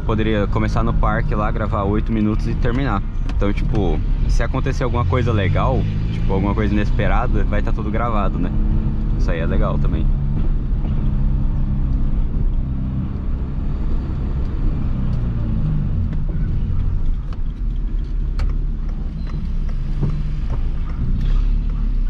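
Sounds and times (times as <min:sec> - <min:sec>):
car engine droning through exhaust: 0:00.0 - 0:22.0.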